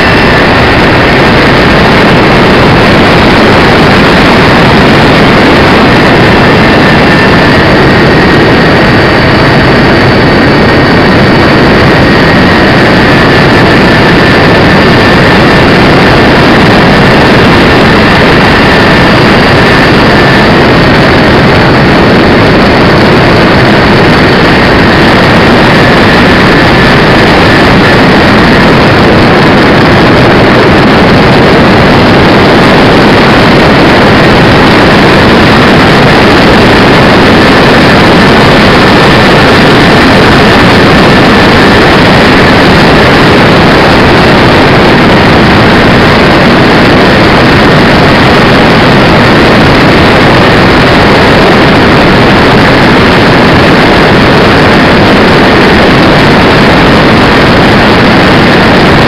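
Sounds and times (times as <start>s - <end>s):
model plane motor and propeller: 0.0s - 53.6s
rushing air: 0.0s - 59.0s
thin high whine: 0.0s - 59.0s.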